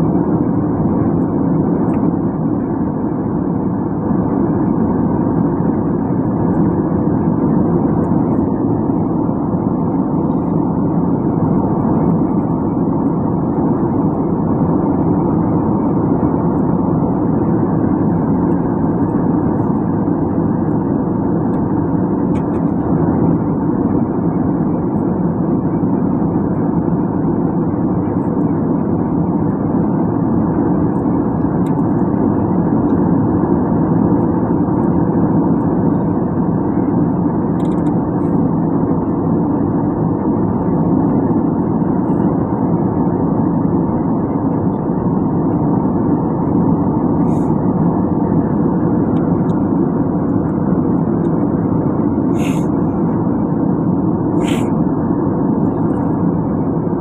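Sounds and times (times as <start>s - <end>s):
airliner cabin airflow and engine hum: 0.0s - 57.0s.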